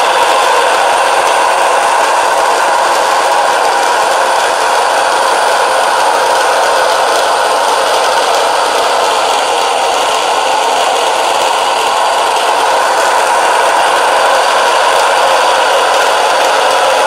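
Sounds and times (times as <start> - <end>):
stone mill grinding grain: 0.0 - 17.0.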